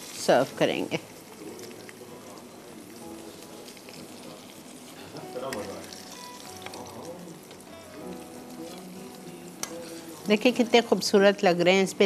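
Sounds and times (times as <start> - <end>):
chicken frying in oil: 0.0 - 11.2.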